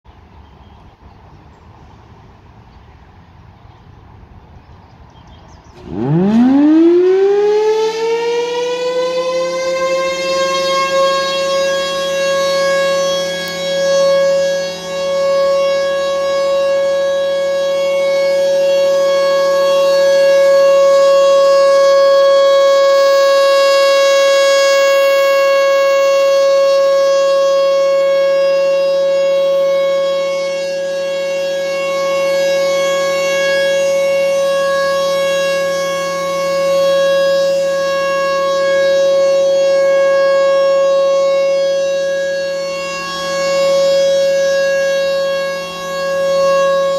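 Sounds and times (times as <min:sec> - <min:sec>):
rotating warning siren tone: 0:05.5 - 0:46.9.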